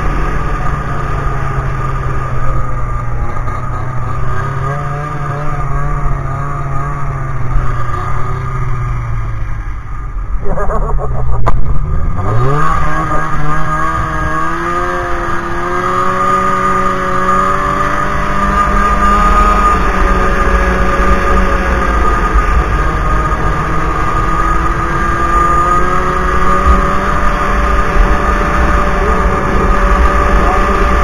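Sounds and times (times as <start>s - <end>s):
snowmobile engine running: 0.0s - 31.0s.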